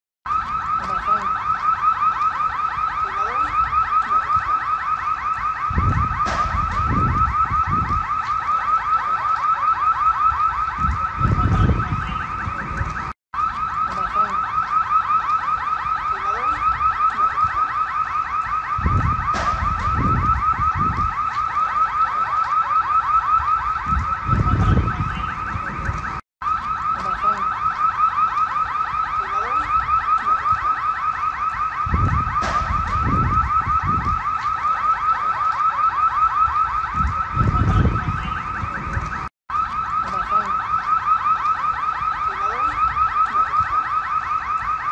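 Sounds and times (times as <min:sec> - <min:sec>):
car alarm pulsing: 0:00.3 - 0:44.9.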